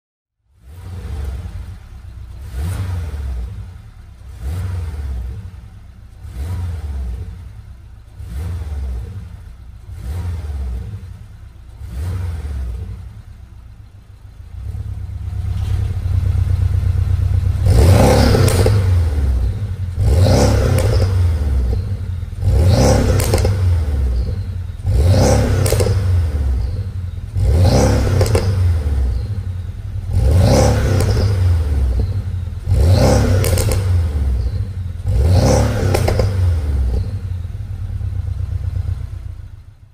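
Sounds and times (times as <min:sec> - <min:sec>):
car engine revving: 0:00.5 - 0:39.9.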